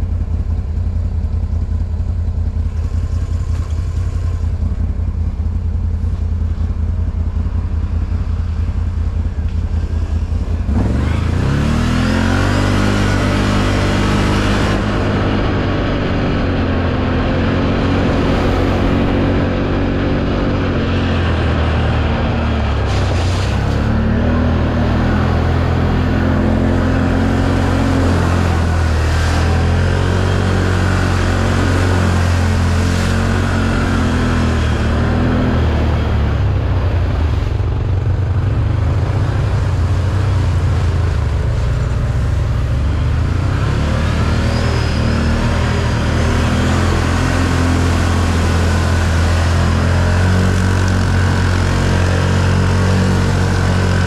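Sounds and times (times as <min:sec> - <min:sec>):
atv engine running: 0:00.0 - 0:54.0
wind and trail noise: 0:00.0 - 0:54.0.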